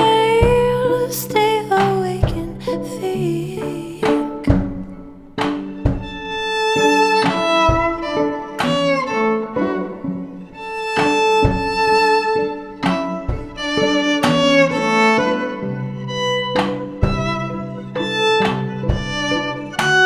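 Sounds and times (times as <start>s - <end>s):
drum hits: 0.0s - 2.9s, 4.0s - 20.0s
violin melody: 0.0s - 20.0s.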